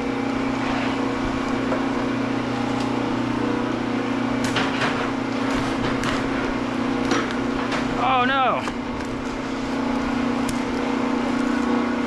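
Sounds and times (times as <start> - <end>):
wire-stripping machine humming: 0.0 - 12.0.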